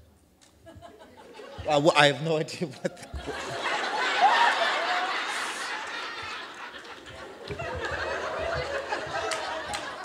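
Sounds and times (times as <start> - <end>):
audience laughing: 0.7 - 10.0.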